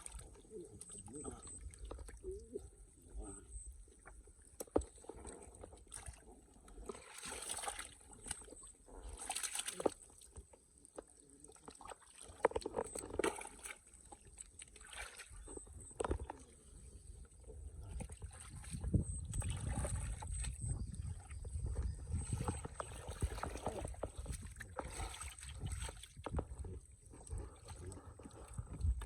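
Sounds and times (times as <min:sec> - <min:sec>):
shallow water splashing: 0:00.0 - 0:29.0.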